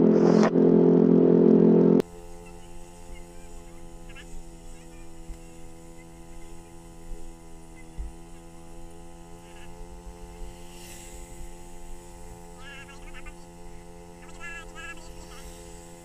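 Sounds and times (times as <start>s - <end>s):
steady hum of fixed tones: 0.0s - 16.0s.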